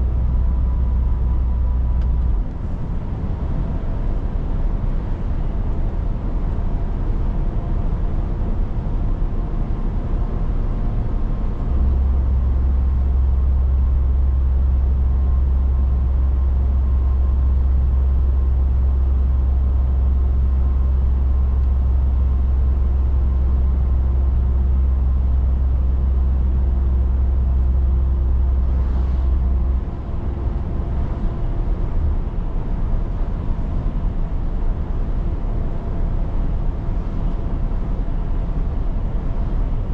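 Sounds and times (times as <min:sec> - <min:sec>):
road noise: 0:00.0 - 0:15.3, 0:20.8 - 0:39.9
strong deep hum: 0:00.0 - 0:39.9.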